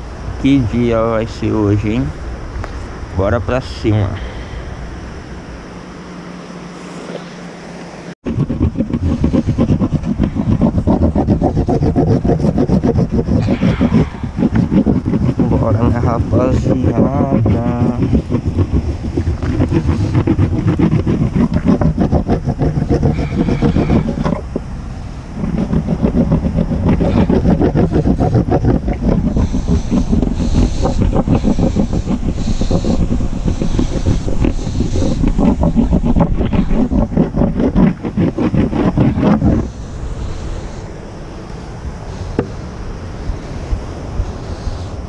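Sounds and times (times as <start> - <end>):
wax scraping on surfboard: 6.7 - 45.0.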